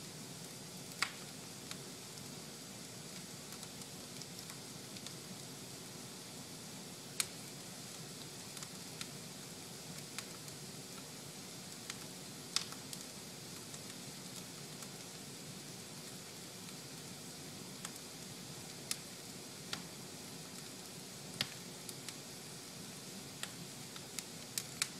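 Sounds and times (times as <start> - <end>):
fire crackling and popping: 0.1 - 24.9
fire hissing: 0.1 - 24.9.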